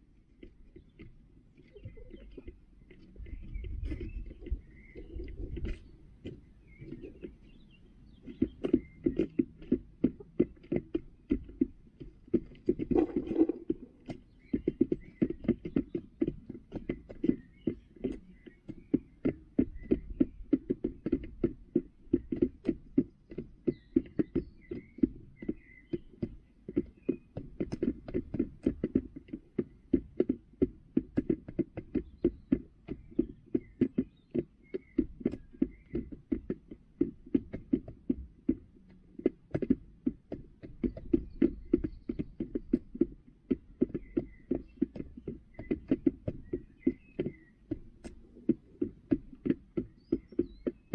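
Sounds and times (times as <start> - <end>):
hens pecking plastic feeder: 0.0 - 50.9.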